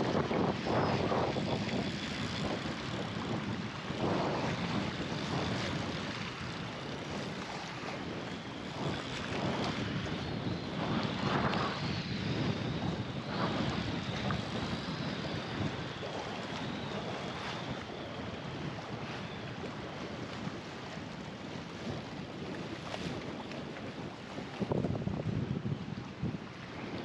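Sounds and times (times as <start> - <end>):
choppy sea water: 0.0 - 27.0
wind buffeting microphone: 0.0 - 27.0.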